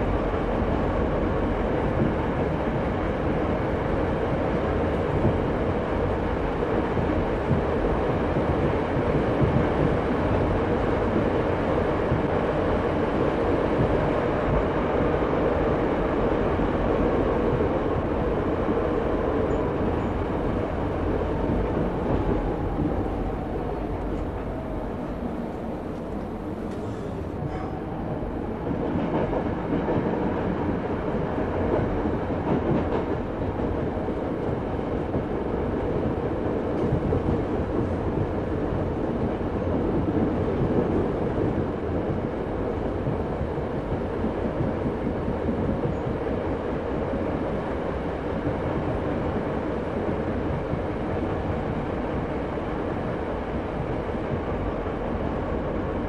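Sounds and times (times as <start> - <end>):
diesel train rumbling: 0.0 - 56.0.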